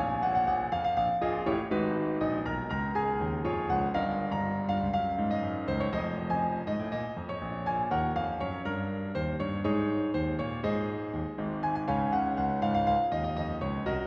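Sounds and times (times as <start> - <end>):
solo piano playing: 0.0 - 14.0.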